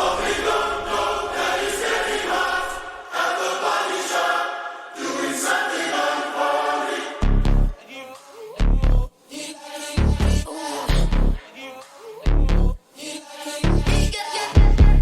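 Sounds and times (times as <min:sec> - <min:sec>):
choir-like layered singing: 0:00.0 - 0:15.0.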